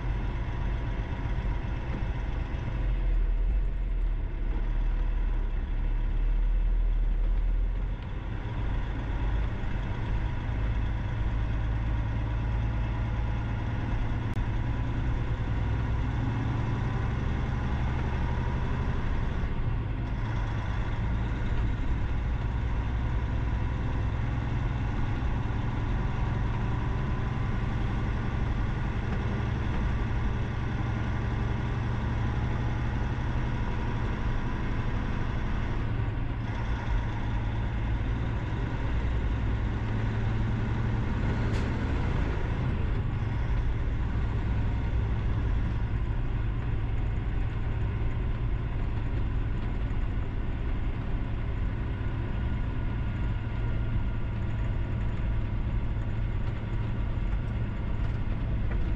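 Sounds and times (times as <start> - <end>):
vehicle engine and road noise: 0.0 - 58.9.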